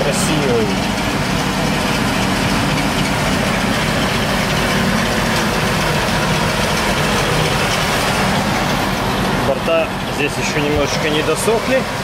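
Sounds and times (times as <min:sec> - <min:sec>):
engine-like drone: 0:00.0 - 0:12.0.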